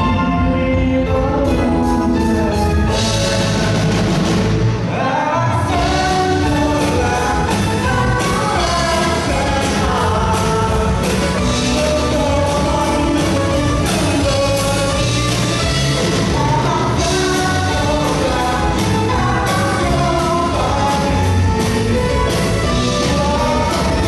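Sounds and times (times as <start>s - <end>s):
bass: 0.0s - 24.0s
drums: 0.0s - 24.0s
person singing: 0.0s - 24.0s.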